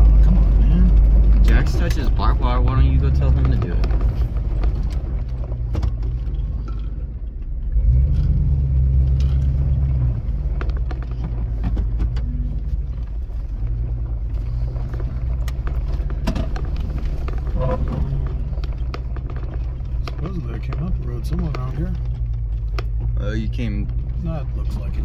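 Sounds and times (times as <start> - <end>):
knocks and rattles: 0.0 - 8.4, 9.0 - 25.0
low engine rumble: 0.0 - 25.0.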